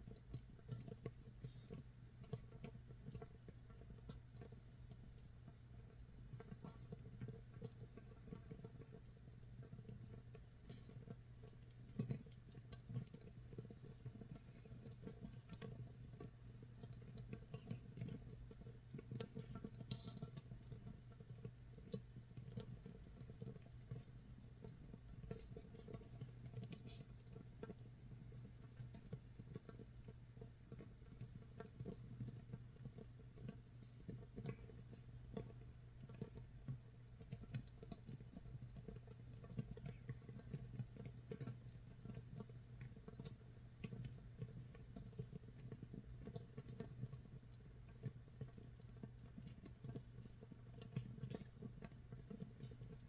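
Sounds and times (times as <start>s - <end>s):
fermenting mash bubbles fizzing: 0.0s - 53.0s.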